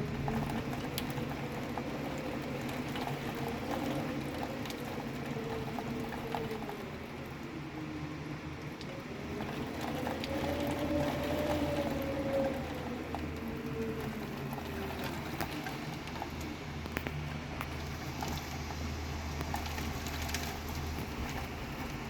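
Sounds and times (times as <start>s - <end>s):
heavy rain hissing: 0.0s - 22.0s
raindrops ticking on a surface: 0.0s - 22.0s.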